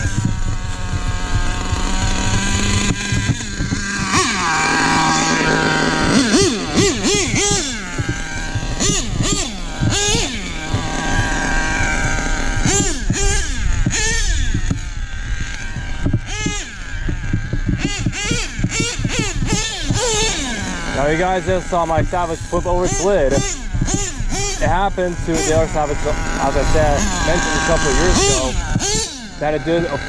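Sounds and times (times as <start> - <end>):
nitro engine revving: 0.0 - 30.0.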